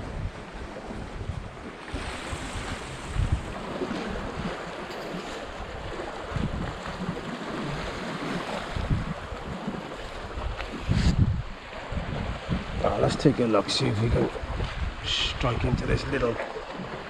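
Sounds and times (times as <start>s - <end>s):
wind buffeting microphone: 0.0s - 17.0s
surf washing on rocks: 0.5s - 17.0s.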